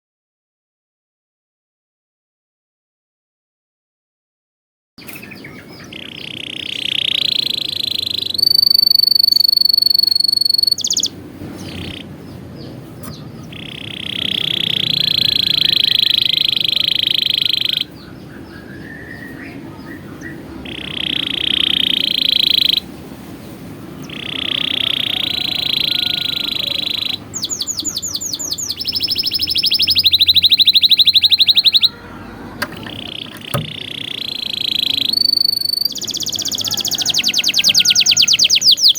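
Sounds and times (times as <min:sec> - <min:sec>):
canary singing: 0:05.0 - 0:38.9.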